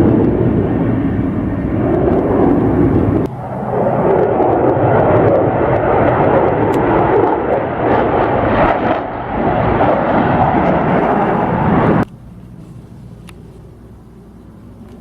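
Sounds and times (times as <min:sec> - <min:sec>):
airplane engines roaring: 0:00.0 - 0:15.0.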